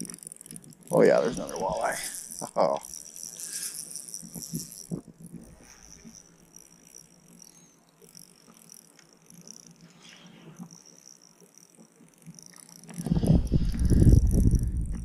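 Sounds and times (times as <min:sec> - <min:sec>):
fishing reel clicking: 0:00.0 - 0:15.0
insect chirring: 0:00.0 - 0:15.0.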